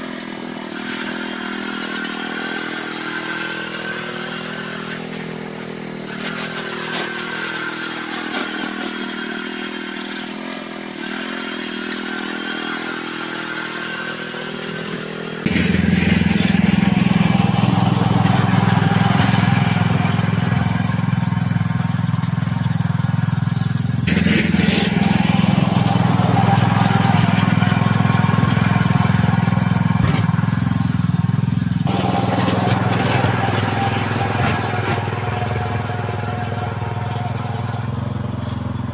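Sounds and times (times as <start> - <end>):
snowblower engine running: 0.0 - 38.9.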